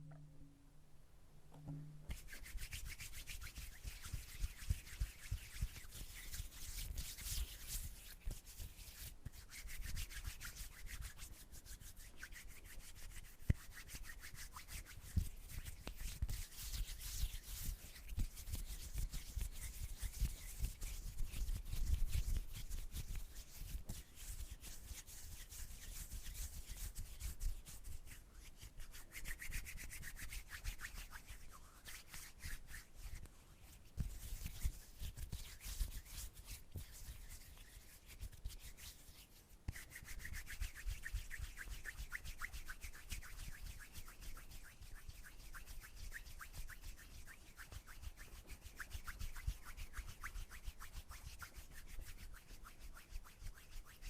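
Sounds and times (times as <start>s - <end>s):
hands rubbing together: 2.0s - 54.0s.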